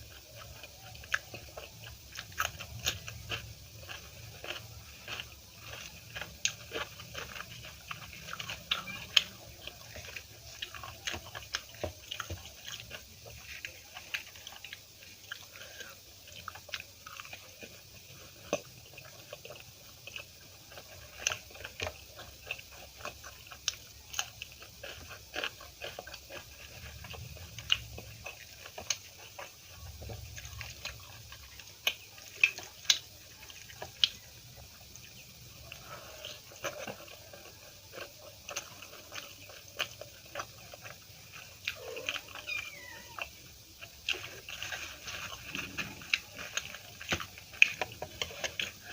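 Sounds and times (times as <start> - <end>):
chewing with mouth clicks: 0.0 - 48.9.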